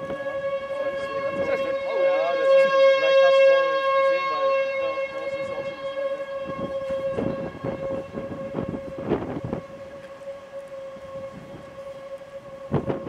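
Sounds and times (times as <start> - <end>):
warning siren wailing: 0.0 - 13.0.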